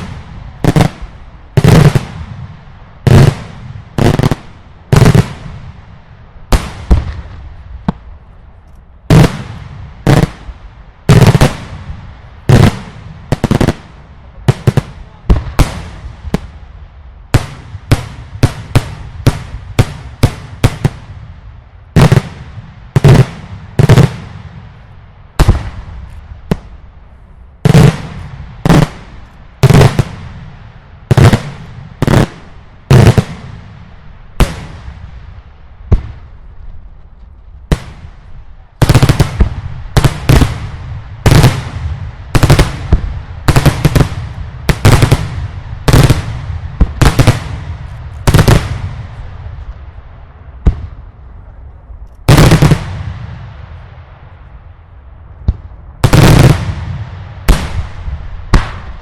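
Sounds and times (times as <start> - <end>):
fireworks bangs echoing: 0.0 - 8.2, 9.1 - 16.7, 17.3 - 26.9, 27.6 - 36.8, 37.6 - 49.8, 50.6 - 51.2, 52.3 - 54.4, 55.4 - 59.0.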